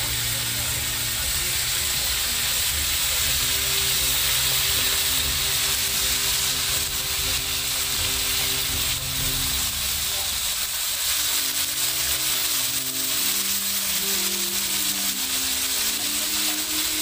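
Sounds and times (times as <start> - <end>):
crabs sizzling in a wok: 0.0 - 17.0
spatula stirring in a wok: 1.0 - 17.0.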